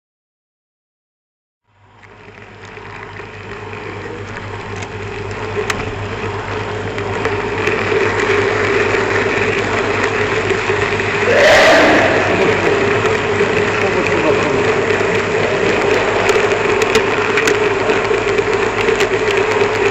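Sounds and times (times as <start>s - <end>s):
model train running on track: 1.8s - 19.9s.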